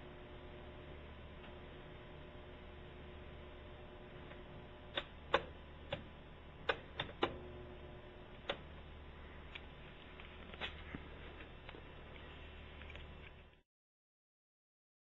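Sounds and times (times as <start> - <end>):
faint steady hum: 0.0 - 13.6.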